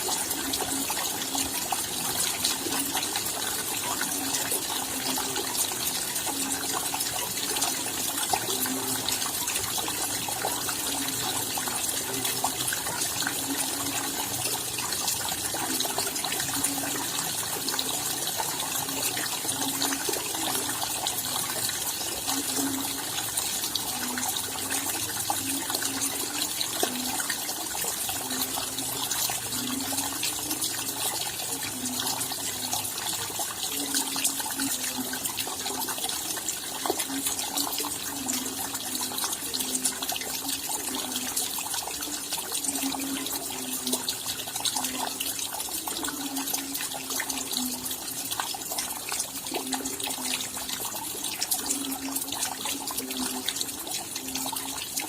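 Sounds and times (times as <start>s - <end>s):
rain patter: 0.0s - 55.0s
water running and splashing: 0.0s - 55.0s.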